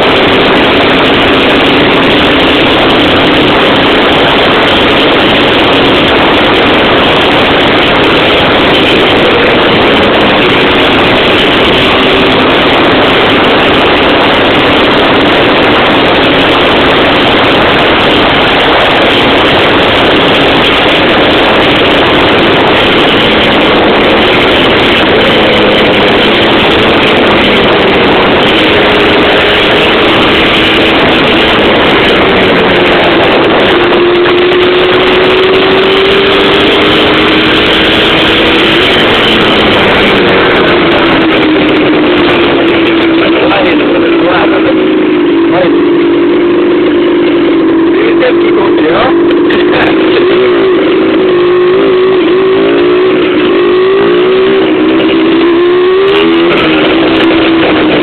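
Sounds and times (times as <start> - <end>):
thick rushing noise: 0.0 - 58.0
two-stroke engine running: 0.0 - 58.0.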